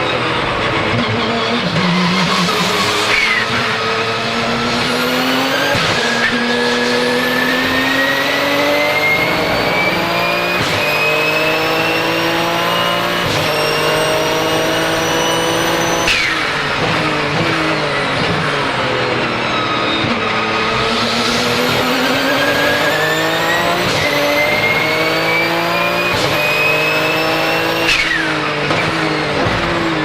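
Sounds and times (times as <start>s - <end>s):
car engine accelerating hard: 0.0s - 30.0s
turbo whistle: 1.0s - 18.2s, 19.4s - 28.5s.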